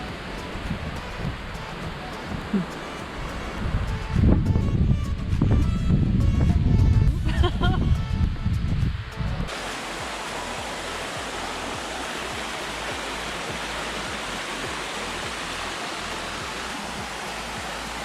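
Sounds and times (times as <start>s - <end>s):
flowing water rushing: 0.0s - 5.8s, 8.7s - 18.0s.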